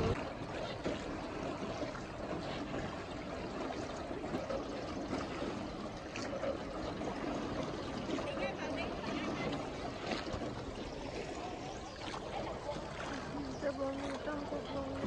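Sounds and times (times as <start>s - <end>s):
river water lapping: 0.0s - 15.0s.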